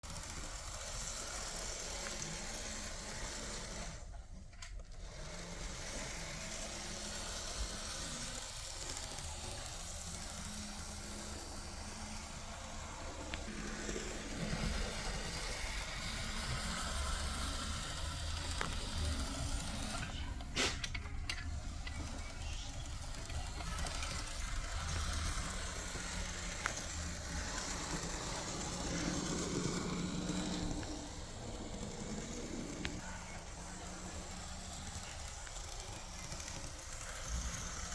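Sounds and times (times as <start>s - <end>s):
model train motor whirring: 0.0s - 37.9s
wheels rattling on rail: 4.9s - 37.9s.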